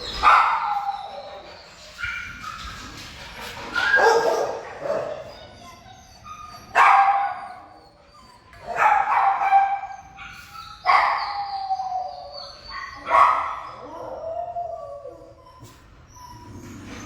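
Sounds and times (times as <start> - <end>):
dogs barking and howling: 0.0 - 17.0.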